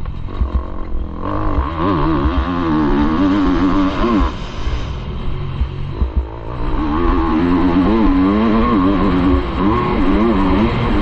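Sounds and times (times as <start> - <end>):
motocross bike engine revving: 0.1 - 11.0.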